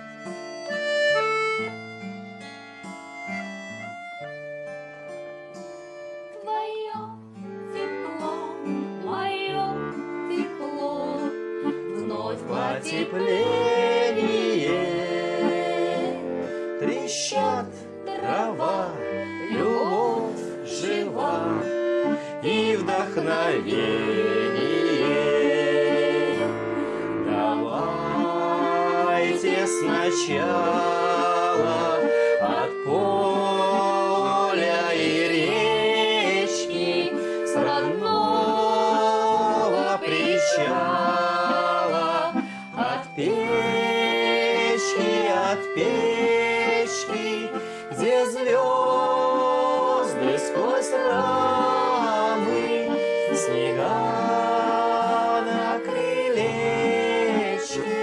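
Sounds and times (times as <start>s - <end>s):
acoustic guitar: 0.0s - 58.0s
button accordion: 0.0s - 58.0s
group singing together: 10.4s - 58.0s.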